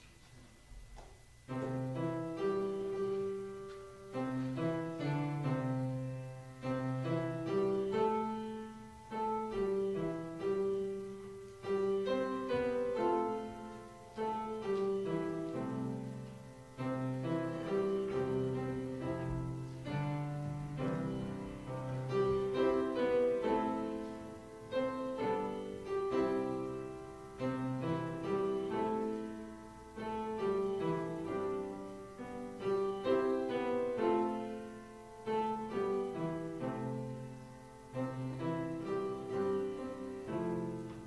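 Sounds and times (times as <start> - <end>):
piano playing chords: 0.7 - 41.0.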